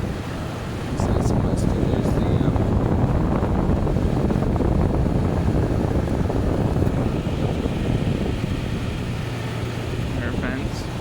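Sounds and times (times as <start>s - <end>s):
air conditioner blower rushing: 0.0s - 11.0s
low hum of air conditioner: 0.0s - 11.0s.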